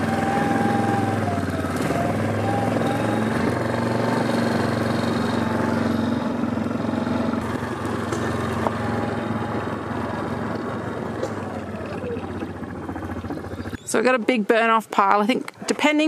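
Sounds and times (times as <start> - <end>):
quad bike engine running: 0.0 - 14.7.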